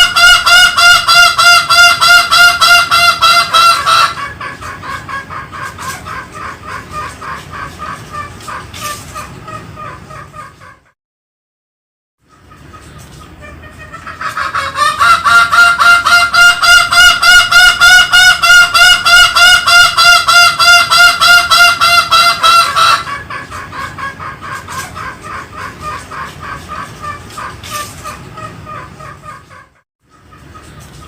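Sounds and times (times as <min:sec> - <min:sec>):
junglefowl calling rapidly: 0:00.0 - 0:11.0, 0:12.3 - 0:31.0.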